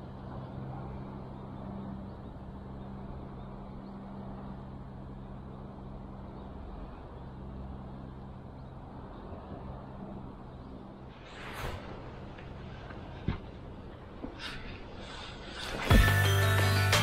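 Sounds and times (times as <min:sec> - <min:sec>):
distant engine humming: 0:00.0 - 0:17.0
outdoor background noise: 0:00.0 - 0:17.0.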